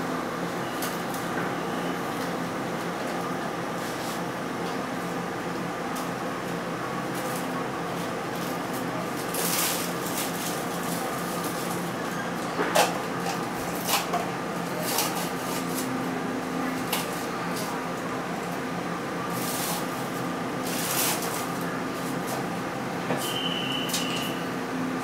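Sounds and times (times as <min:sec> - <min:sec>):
train coach air-conditioning hum: 0:00.0 - 0:25.0.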